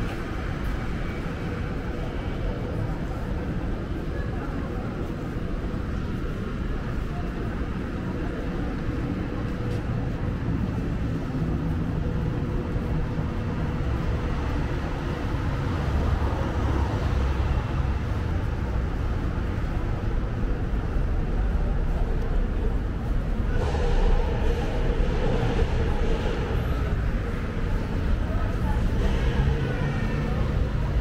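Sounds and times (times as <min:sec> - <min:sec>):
car engines in traffic: 0:00.0 - 0:31.0.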